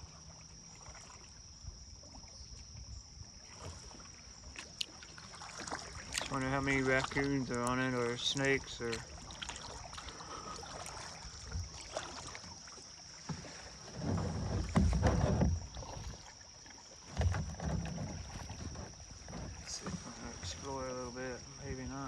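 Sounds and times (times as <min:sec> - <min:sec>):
paddle splashing in water: 0:00.0 - 0:22.0.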